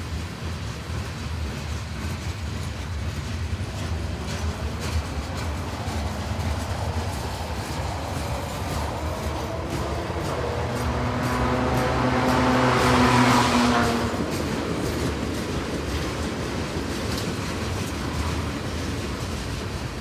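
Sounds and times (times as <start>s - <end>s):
freight train rumbling: 0.0s - 20.0s
train wheels clicking over rail joints: 0.0s - 20.0s.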